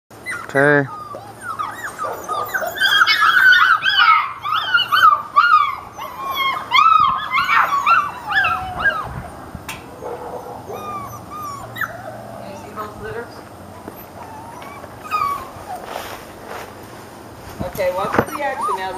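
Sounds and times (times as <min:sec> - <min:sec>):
puppies whining and yelping: 0:00.2 - 0:12.9, 0:13.6 - 0:16.1, 0:17.8 - 0:18.9.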